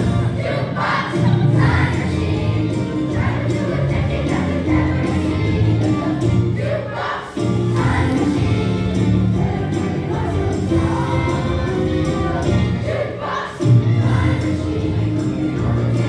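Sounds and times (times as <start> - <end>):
children's choir singing: 0.0 - 16.0
instrumental accompaniment: 0.0 - 16.0.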